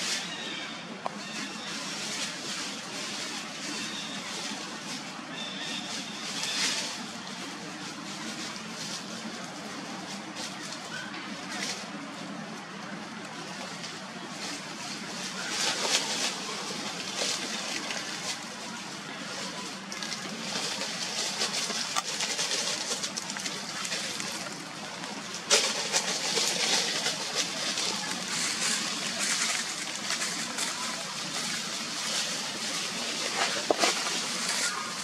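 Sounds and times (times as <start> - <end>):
dry leaves rustling and crunching: 0.0 - 35.0.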